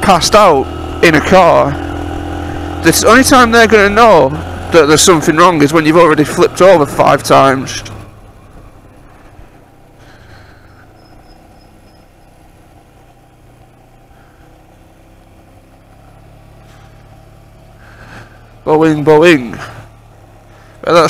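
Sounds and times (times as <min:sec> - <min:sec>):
motorcycle engine at low revs: 0:00.0 - 0:21.0
road and wind noise: 0:00.0 - 0:21.0.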